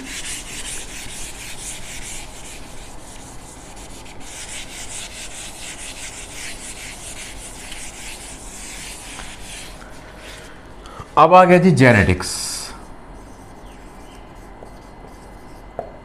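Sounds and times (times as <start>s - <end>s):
eraser wiping a whiteboard: 0.0s - 10.6s, 12.8s - 15.8s.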